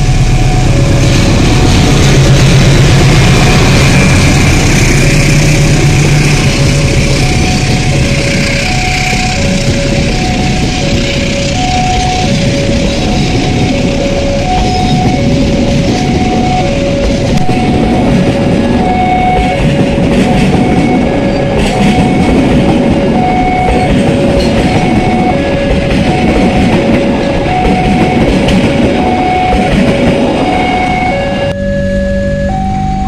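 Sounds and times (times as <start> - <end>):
train wheels rushing on rails: 0.0 - 31.6
two-note alternating tone: 3.0 - 33.0.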